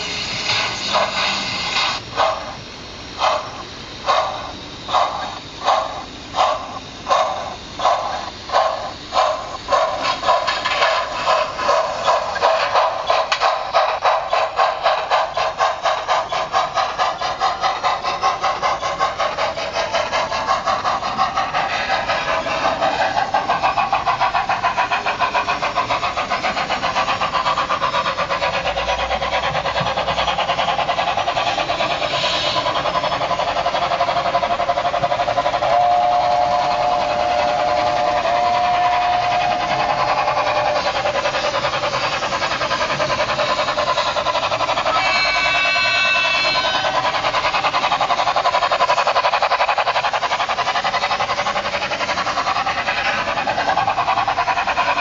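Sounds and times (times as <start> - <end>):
model steam locomotive chuffs: 0.0 - 55.0.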